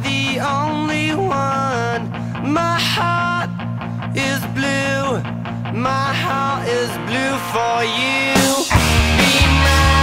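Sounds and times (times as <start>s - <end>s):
rock music with singer: 0.0s - 10.0s.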